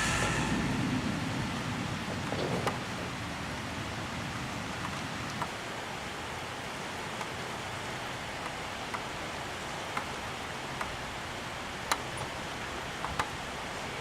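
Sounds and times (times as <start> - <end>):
heavy storm rain: 0.0 - 14.0.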